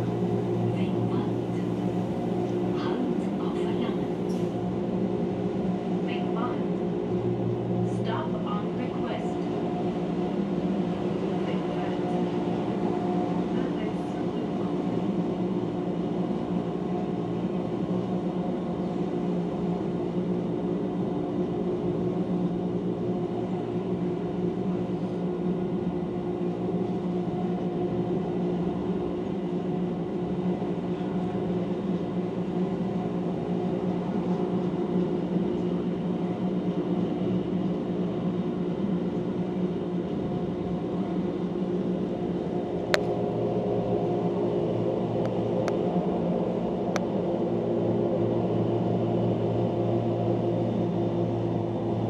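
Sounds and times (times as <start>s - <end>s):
train low humming tones: 0.0s - 52.0s
train ride noise: 0.0s - 52.0s.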